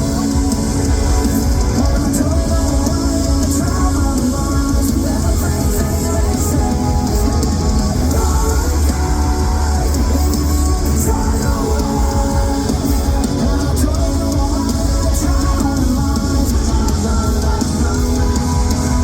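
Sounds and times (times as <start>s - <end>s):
distorted electric guitars: 0.0s - 19.0s
drums: 0.0s - 19.0s.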